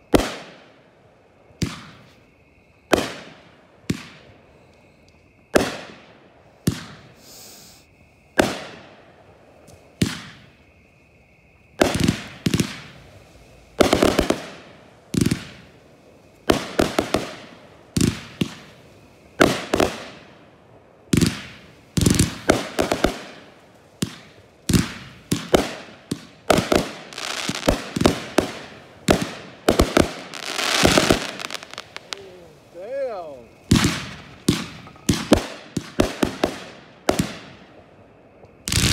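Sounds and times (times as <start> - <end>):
fireworks bangs: 0.0 - 0.8, 1.6 - 2.2, 2.9 - 4.4, 5.5 - 7.8, 8.4 - 9.0, 9.9 - 10.6, 11.7 - 15.8, 16.4 - 20.4, 21.1 - 37.9, 38.6 - 38.9.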